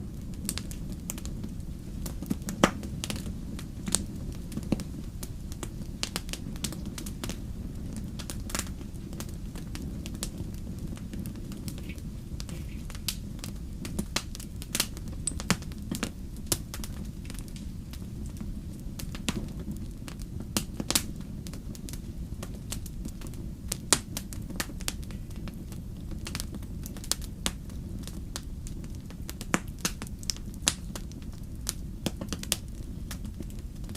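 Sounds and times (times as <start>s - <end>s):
fire crackling and popping: 0.0s - 33.9s
wood fire rumbling: 0.0s - 33.9s.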